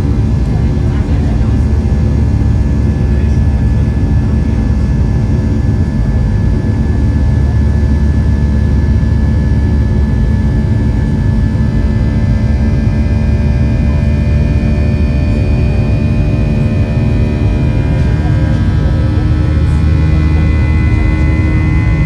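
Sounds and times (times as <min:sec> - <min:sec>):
jet engines running in cabin: 0:00.0 - 0:22.0.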